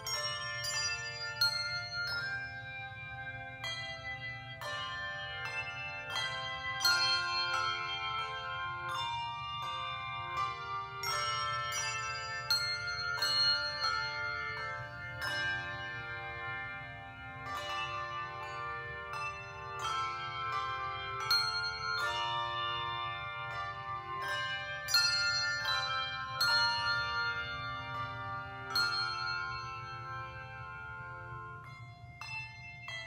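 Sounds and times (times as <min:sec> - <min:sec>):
handbell choir playing chords: 0:00.0 - 0:33.0.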